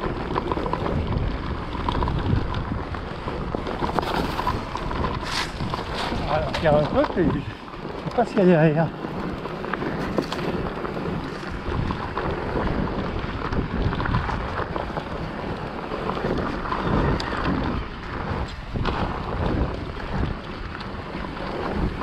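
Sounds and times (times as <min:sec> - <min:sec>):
bike clattering over rough ground: 0:00.0 - 0:22.0
wind on camera microphone: 0:00.0 - 0:22.0.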